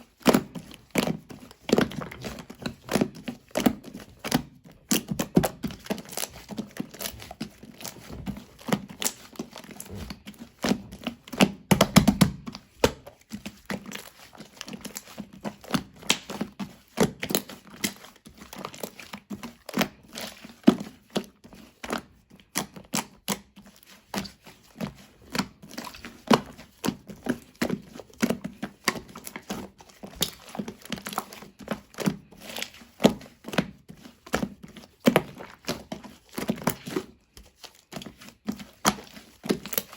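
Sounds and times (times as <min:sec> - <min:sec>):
slime squishing and crackling: 0:00.0 - 0:39.9.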